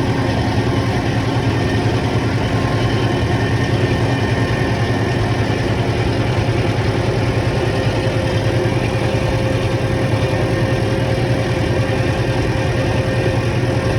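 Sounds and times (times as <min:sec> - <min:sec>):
heavy machinery engine running: 0:00.0 - 0:13.9.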